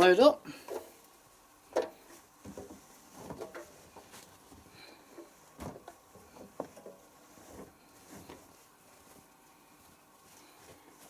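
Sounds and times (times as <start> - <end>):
laundry rustling: 0.0 - 11.0.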